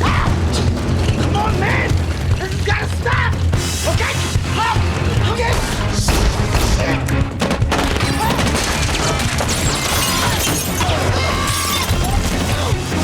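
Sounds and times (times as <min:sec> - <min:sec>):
action film music: 0:00.0 - 0:13.0.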